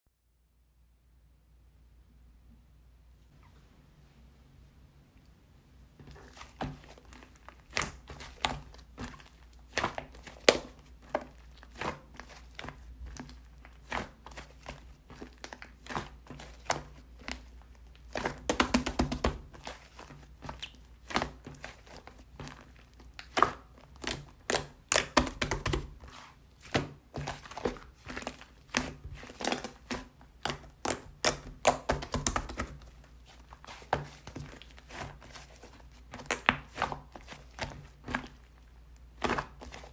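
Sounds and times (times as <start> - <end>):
slime squished by hand: 6.0 - 39.9.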